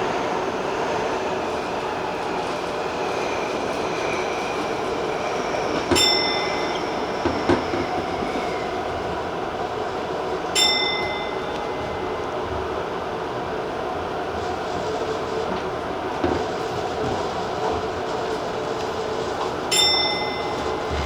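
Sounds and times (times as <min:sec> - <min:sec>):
train rolling: 0:00.0 - 0:21.0.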